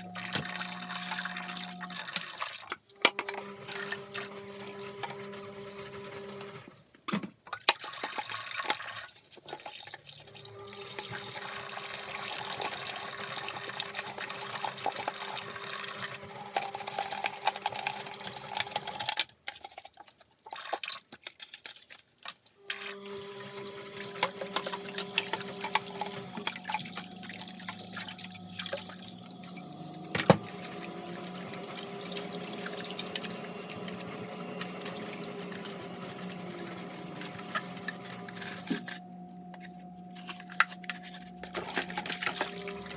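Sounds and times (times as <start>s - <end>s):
tap water running and splashing: 0.0s - 2.8s, 7.5s - 38.9s, 40.2s - 42.9s.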